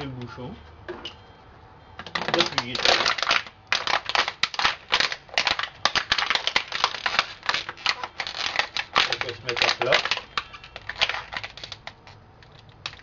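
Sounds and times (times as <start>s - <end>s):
plastic bottle crackling when squeezed: 2.0s - 13.0s.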